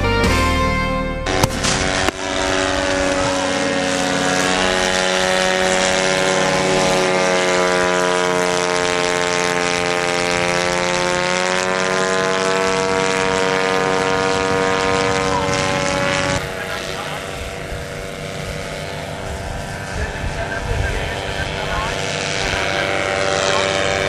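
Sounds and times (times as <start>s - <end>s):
ultralight aircraft engine droning: 0.0s - 24.0s.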